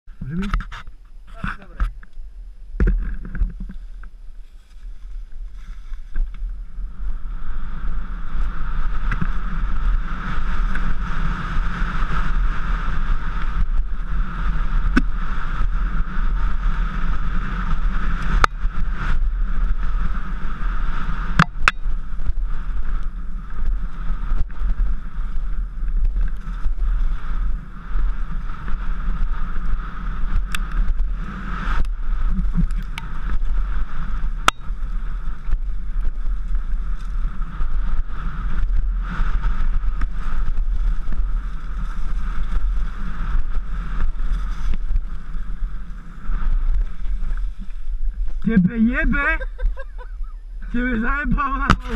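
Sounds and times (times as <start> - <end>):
bike tyre rumble on dirt: 0.1 - 51.9
wind rush: 0.1 - 51.9.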